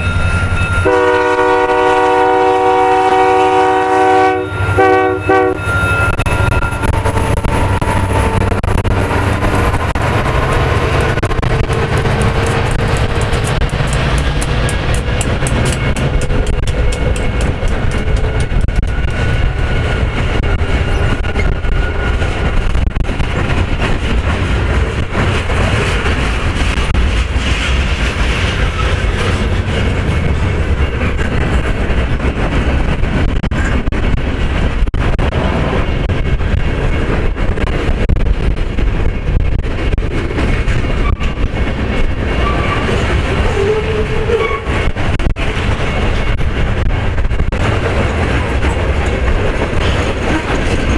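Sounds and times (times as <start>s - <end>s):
freight train rumbling on rails: 0.0s - 50.9s
wheels clacking over rail joints: 6.3s - 50.9s.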